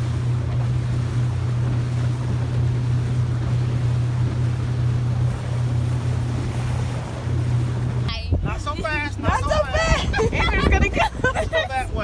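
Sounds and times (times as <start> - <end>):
motorboat engine droning: 0.0 - 12.0
wind and water rushing: 0.0 - 12.0.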